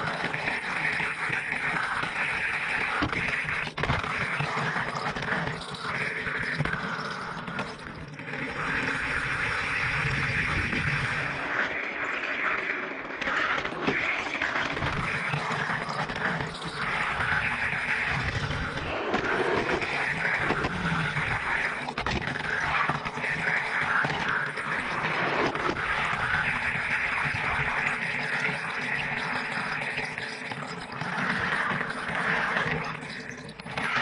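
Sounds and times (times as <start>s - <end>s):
toy car rolling on plastic track: 0.0s - 34.0s.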